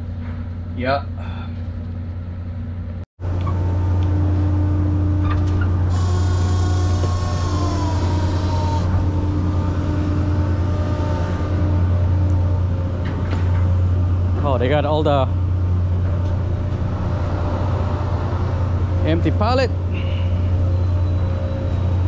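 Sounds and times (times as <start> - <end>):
boat machinery droning: 2.7 - 22.0.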